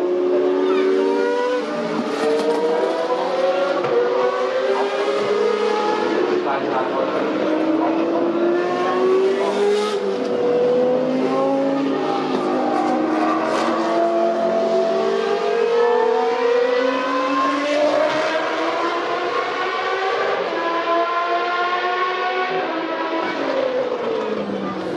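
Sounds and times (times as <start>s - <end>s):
racing car engine revving: 0.0s - 24.9s.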